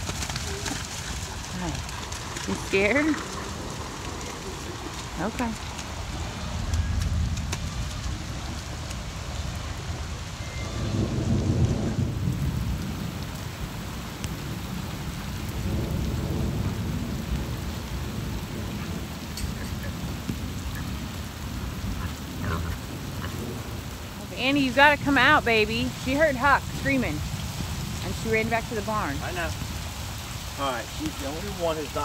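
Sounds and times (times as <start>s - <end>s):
heavy rain on floodwater: 0.0s - 32.0s
thunder rumbling: 0.0s - 32.0s.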